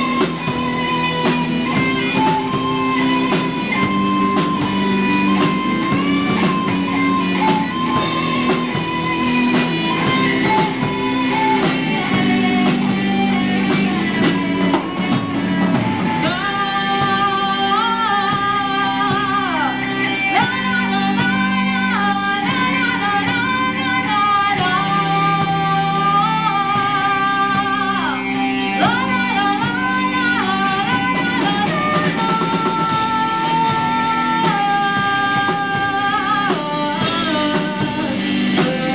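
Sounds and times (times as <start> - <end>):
drum kit: 0.0 - 38.9
electric guitars: 0.0 - 38.9
woman singing: 0.0 - 38.9.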